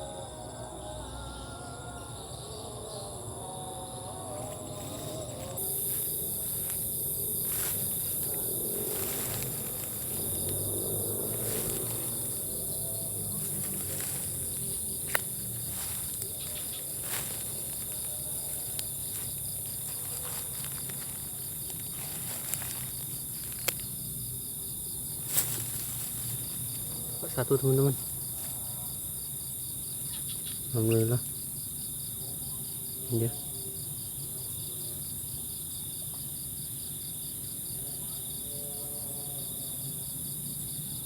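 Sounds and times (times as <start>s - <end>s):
crickets chirring: 0.0s - 41.0s.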